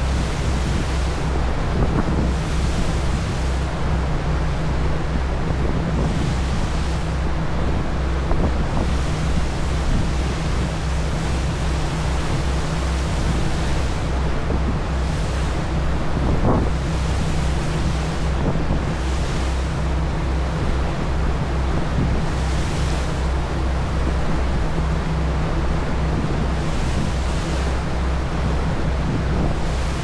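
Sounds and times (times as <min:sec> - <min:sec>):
low engine drone: 0:00.0 - 0:30.0
rushing water wake: 0:00.0 - 0:30.0
wind buffeting microphone: 0:00.0 - 0:30.0.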